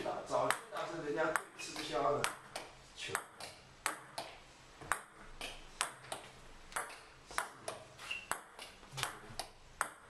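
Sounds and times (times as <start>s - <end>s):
table tennis ball clicking: 0.4s - 10.0s.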